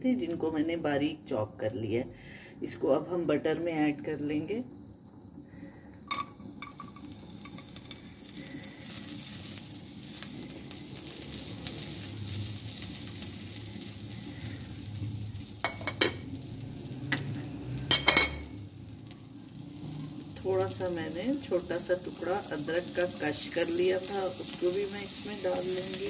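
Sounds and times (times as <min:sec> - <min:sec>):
garlic sizzling in butter: 0:03.4 - 0:26.0.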